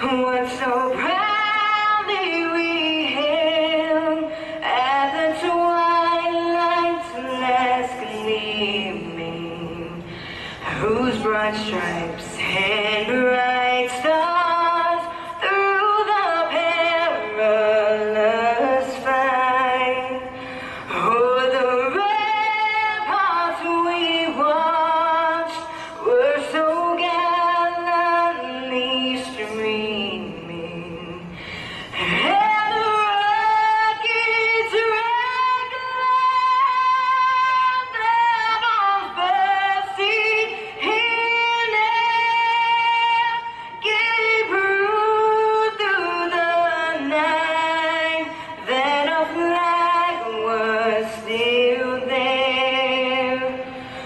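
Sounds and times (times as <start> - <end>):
woman singing with vibrato: 0.0 - 54.0.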